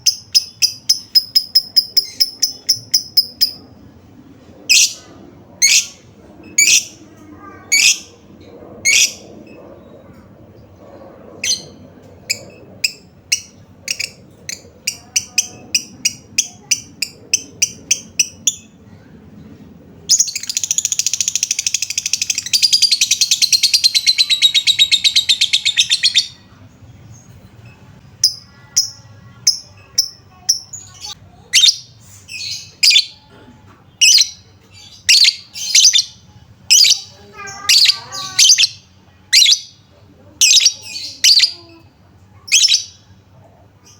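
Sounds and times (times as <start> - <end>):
bird chirping and trilling: 0.0 - 3.7, 4.7 - 10.7, 11.4 - 18.8, 20.1 - 26.5, 27.1 - 33.3, 34.0 - 39.8, 40.4 - 41.8, 42.4 - 43.1.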